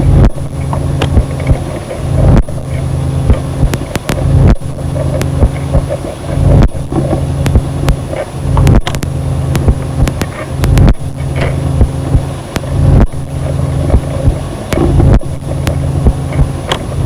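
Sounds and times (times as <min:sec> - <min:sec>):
dense low drone: 0:00.0 - 0:17.0
sharp clicks: 0:00.1 - 0:16.9.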